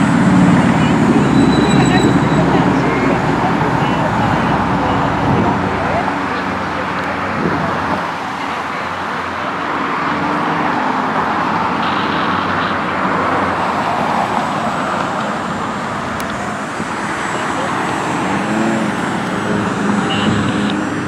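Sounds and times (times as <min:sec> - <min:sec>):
road traffic hiss: 0:00.0 - 0:21.0.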